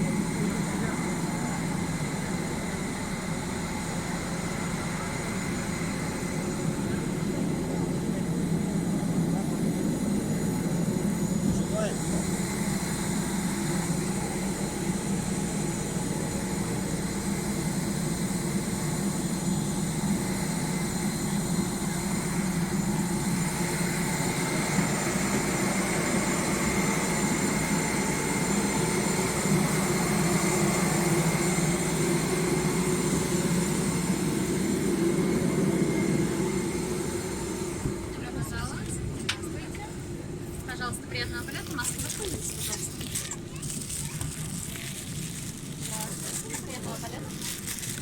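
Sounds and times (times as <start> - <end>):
airliner cabin hum: 0.0 - 48.0
high steady whines: 0.0 - 48.0.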